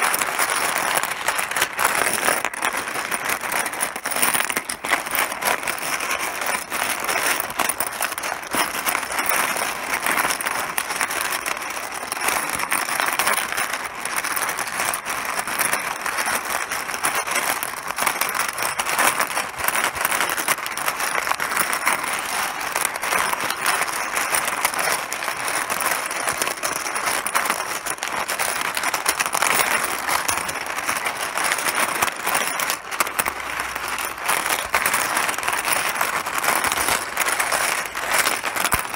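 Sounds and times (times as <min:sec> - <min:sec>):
mahjong pieces clattering: 0:00.0 - 0:38.9.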